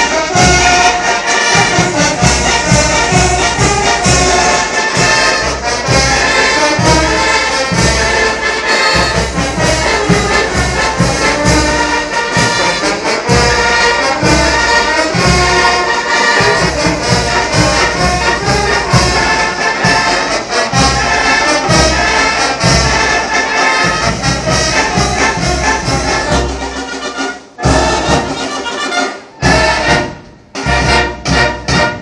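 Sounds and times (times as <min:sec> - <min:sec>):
brass band playing: 0:00.0 - 0:32.0.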